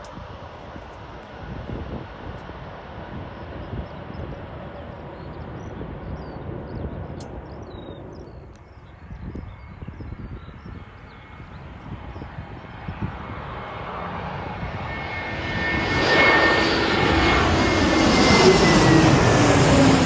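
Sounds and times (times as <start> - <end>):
distant aircraft noise: 0.0 - 20.0
wind buffeting: 0.1 - 20.0.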